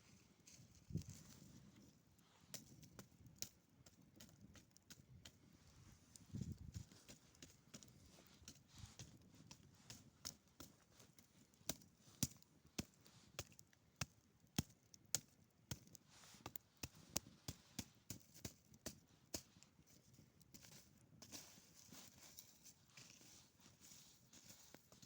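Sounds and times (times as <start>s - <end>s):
campfire crackling: 0.1s - 25.0s.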